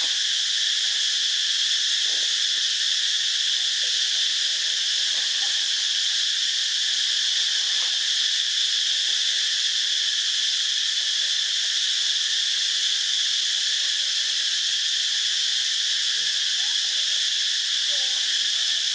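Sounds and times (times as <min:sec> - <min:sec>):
insect chorus drone: 0:00.0 - 0:18.9.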